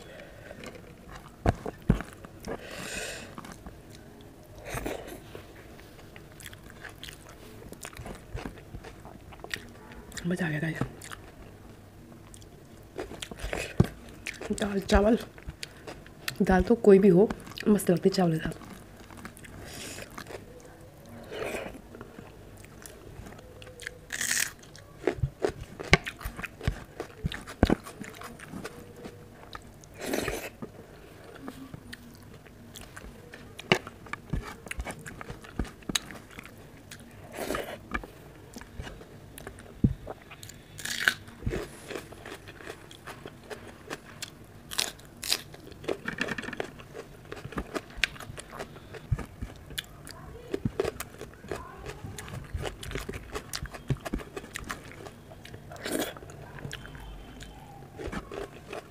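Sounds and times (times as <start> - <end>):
wet chewing and mouth noises: 0.0 - 10.3, 11.0 - 11.4, 12.2 - 17.8, 18.5 - 58.9.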